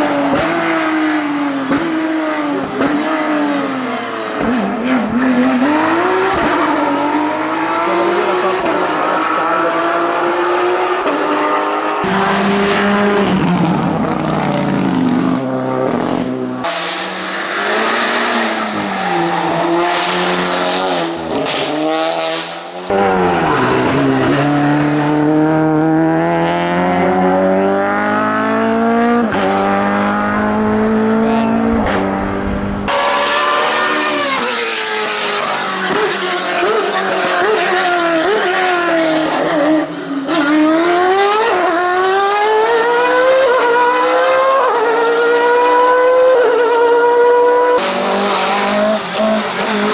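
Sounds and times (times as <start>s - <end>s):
race car engines at full throttle: 0.0s - 49.9s.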